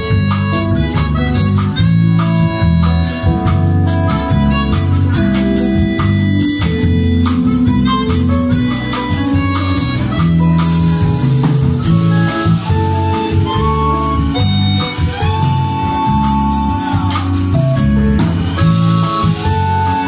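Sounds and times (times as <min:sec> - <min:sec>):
electric bass: 0:00.0 - 0:20.0
electric guitar: 0:00.0 - 0:20.0
harmonica melody: 0:00.0 - 0:20.0.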